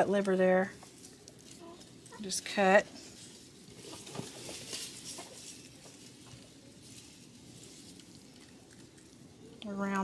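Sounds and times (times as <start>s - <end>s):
low background noise: 0.0s - 10.0s
soft clicks and rustles of handling: 0.1s - 9.9s.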